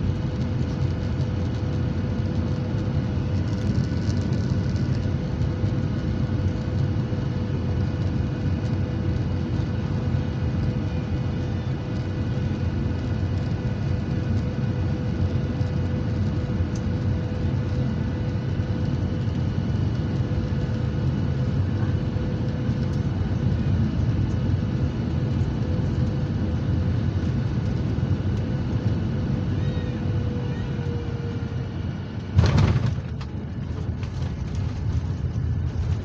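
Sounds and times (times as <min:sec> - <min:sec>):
jet engines and airflow rumble: 0:00.0 - 0:36.0
steady cabin hum: 0:00.0 - 0:36.0.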